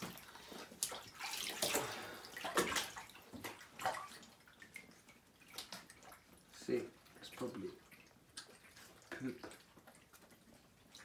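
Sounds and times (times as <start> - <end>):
bathwater splashing and sloshing: 0.0 - 11.0.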